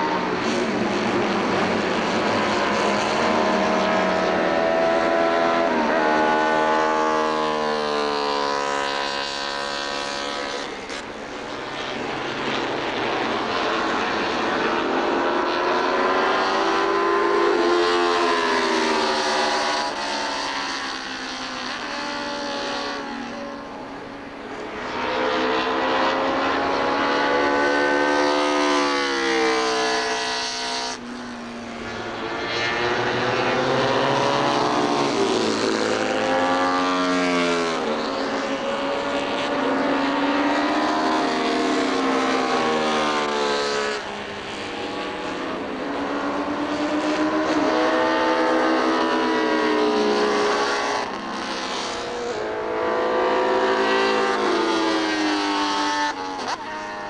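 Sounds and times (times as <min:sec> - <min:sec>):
racing motorcycle engine revving: 0:00.0 - 0:57.0.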